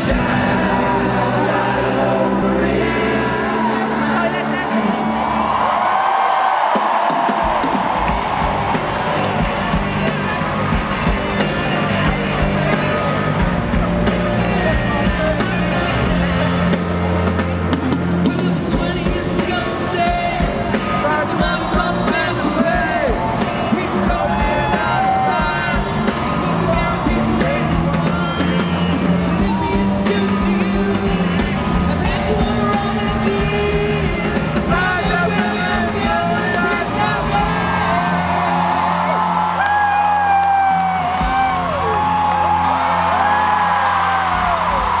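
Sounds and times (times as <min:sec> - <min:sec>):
crowd screaming and whooping: 0:00.0 - 0:45.0
loud concert music with singing: 0:00.0 - 0:45.0.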